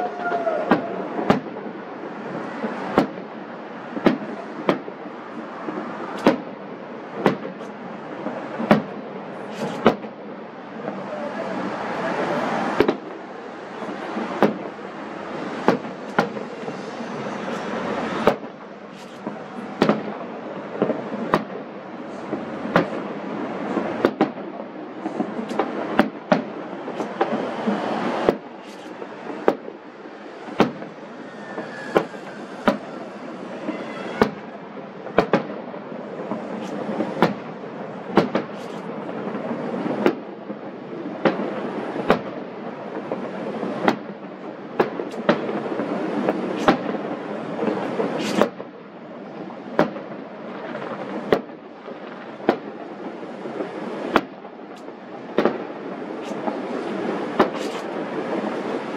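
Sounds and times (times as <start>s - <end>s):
distant firework bangs: 0.0s - 58.9s.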